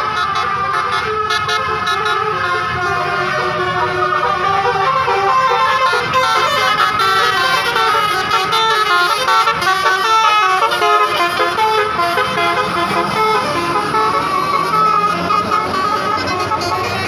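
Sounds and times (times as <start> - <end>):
musical air horn melody: 0.0 - 17.0.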